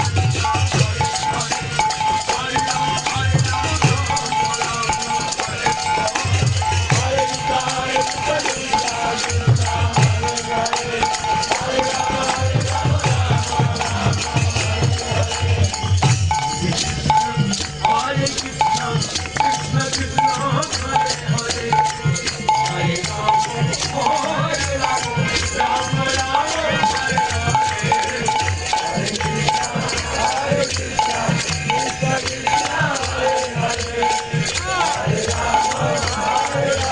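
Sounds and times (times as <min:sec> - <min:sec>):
deep drum beats: 0:00.0 - 0:36.9
hand cymbals clashing: 0:00.0 - 0:36.9.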